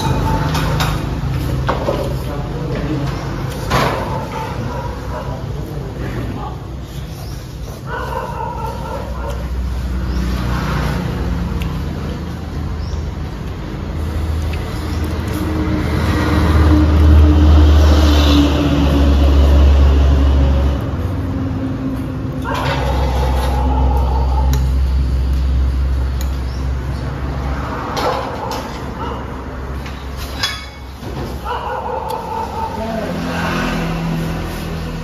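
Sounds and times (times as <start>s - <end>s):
passing motor vehicle rumble: 0.0s - 35.0s.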